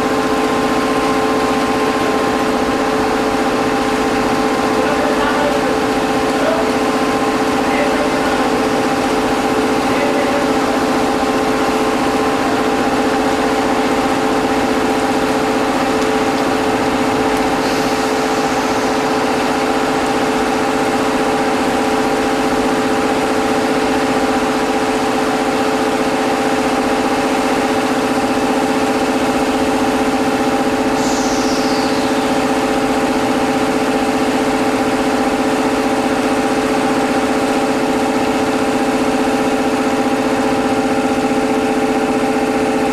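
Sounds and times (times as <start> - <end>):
electric machinery hum: 0.0 - 42.9.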